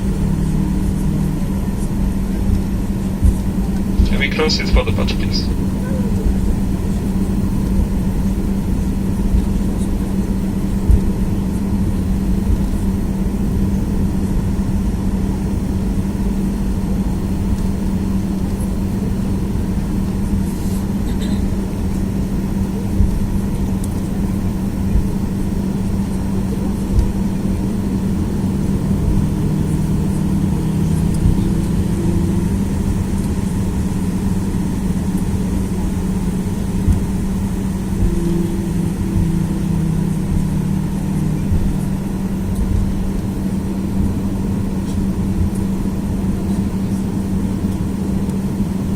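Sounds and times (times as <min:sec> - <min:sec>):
jet engines humming: 0:00.0 - 0:48.9
low cabin rumble: 0:00.0 - 0:48.9
low engine tone: 0:00.0 - 0:48.9.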